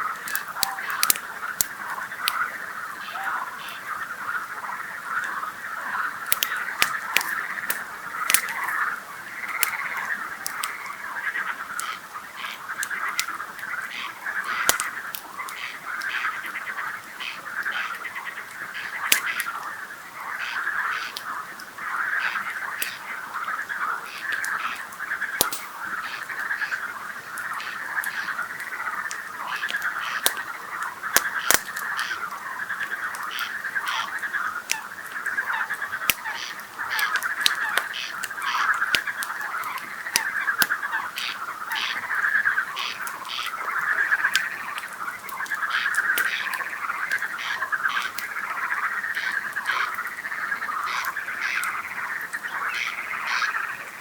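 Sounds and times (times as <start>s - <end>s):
campfire popping and crackling: 0.0s - 54.0s
frogs croaking: 0.0s - 54.0s.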